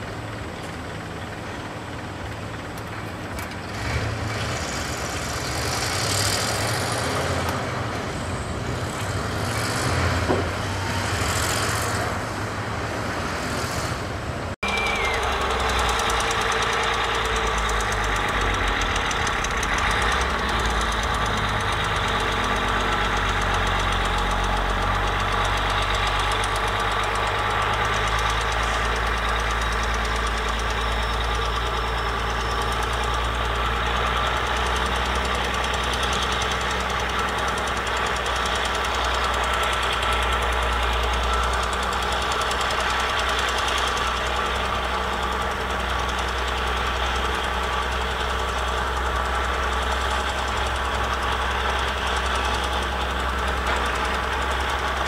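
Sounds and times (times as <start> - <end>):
bulldozer diesel engine: 0.0 - 55.0
dump truck diesel engine: 0.0 - 55.0.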